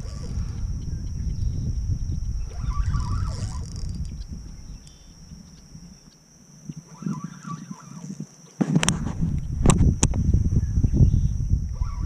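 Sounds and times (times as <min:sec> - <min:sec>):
bird calling: 0:00.0 - 0:08.6, 0:10.6 - 0:12.0
wind rumbling on microphone: 0:00.0 - 0:12.0.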